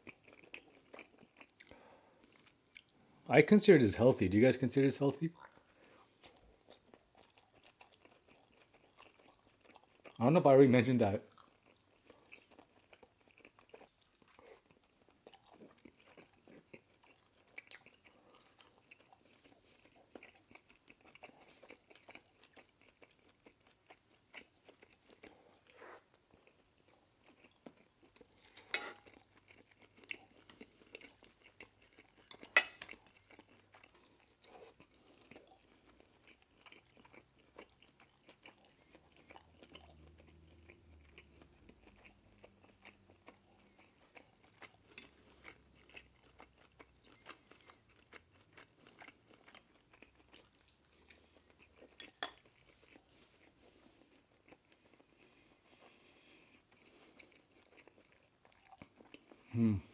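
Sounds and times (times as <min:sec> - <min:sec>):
person chewing and biting: 0:00.0 - 0:02.9, 0:05.4 - 0:10.2, 0:11.2 - 0:59.9.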